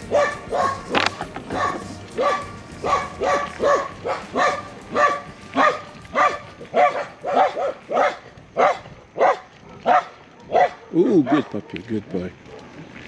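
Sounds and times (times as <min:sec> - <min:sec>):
puppy barking: 0:00.0 - 0:12.7.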